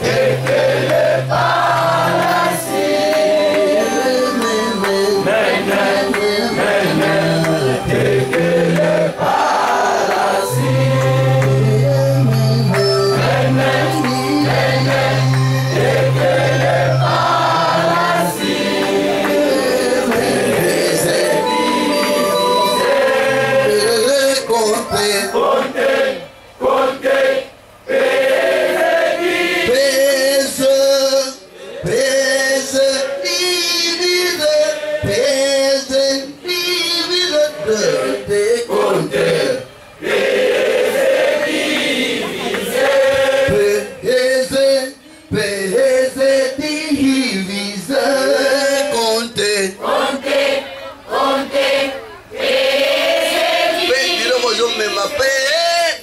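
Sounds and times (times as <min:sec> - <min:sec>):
choir singing long notes: 0:00.0 - 0:30.6, 0:31.5 - 0:44.8, 0:47.3 - 0:55.1.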